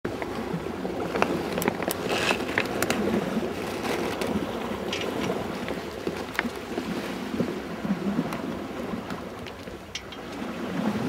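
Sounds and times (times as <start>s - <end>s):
water along hull: 0.0s - 11.0s
wind on microphone: 0.1s - 11.0s.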